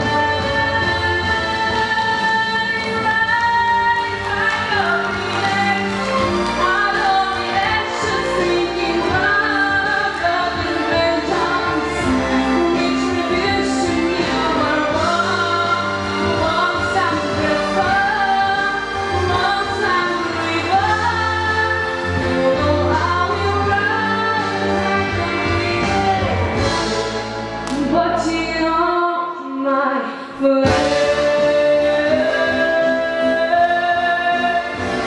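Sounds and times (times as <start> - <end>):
instrumental accompaniment: 0.0 - 29.0
woman singing into microphone: 0.0 - 35.0.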